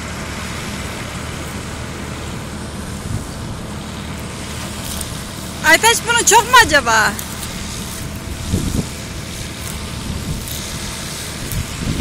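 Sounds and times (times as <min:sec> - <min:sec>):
farm machinery engine drone: 0:00.0 - 0:12.0.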